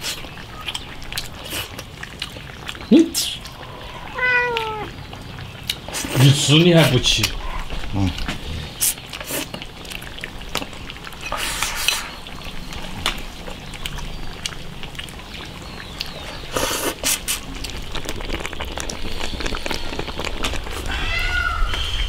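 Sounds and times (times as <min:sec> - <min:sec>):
wet slurps: 0:00.0 - 0:06.3, 0:07.2 - 0:20.9.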